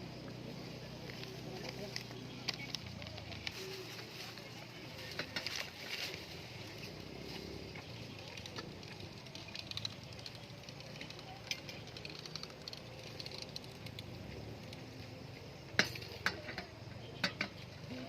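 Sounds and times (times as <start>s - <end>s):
small hard objects clinking: 1.1s - 18.0s.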